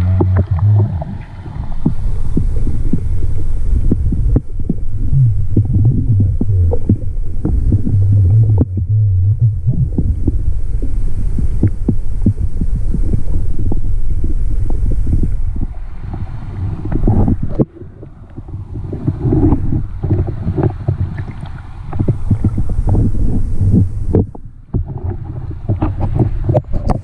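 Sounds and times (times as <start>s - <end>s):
underwater low rumble: 0.0s - 27.0s.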